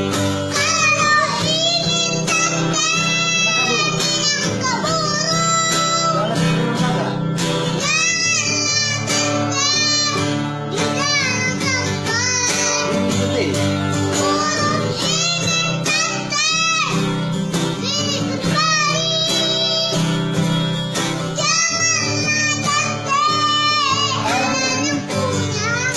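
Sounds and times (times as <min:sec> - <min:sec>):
high singing voice: 0:00.0 - 0:06.8, 0:07.6 - 0:25.9.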